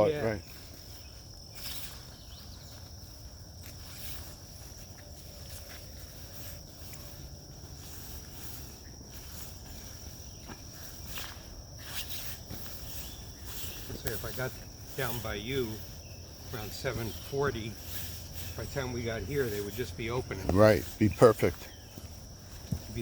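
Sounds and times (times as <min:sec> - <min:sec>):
crickets trilling: 0:00.0 - 0:23.0
crunching footsteps: 0:00.0 - 0:23.0.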